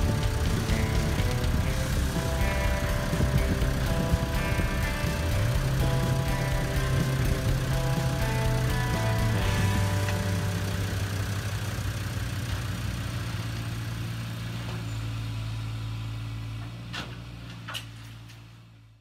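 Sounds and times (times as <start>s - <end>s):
low engine-like hum: 0.0s - 19.0s.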